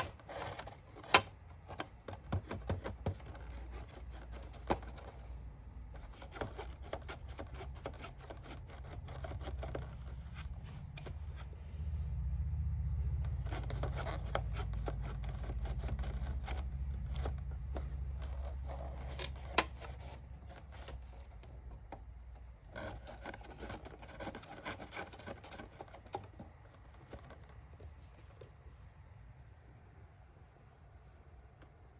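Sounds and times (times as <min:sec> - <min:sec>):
small wooden clicks: 0:00.0 - 0:11.5, 0:13.2 - 0:28.6
cardboard scrapes and rubs: 0:00.0 - 0:11.8, 0:13.2 - 0:28.5.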